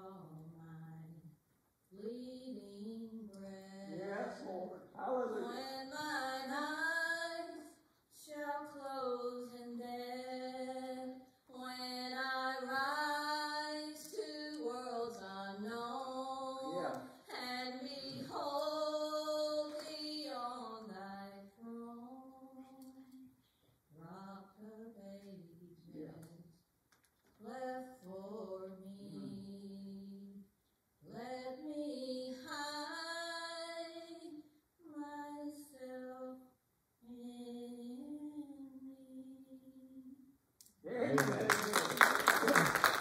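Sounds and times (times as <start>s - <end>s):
woman singing: 0.0s - 1.3s, 1.9s - 4.1s, 5.4s - 23.3s, 24.0s - 26.5s, 27.4s - 30.4s, 31.0s - 40.2s.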